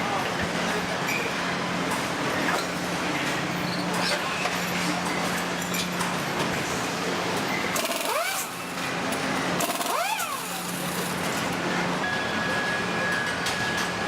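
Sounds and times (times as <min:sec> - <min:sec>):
machinery hum and hiss: 0:00.0 - 0:14.0
machine whines: 0:01.0 - 0:14.0.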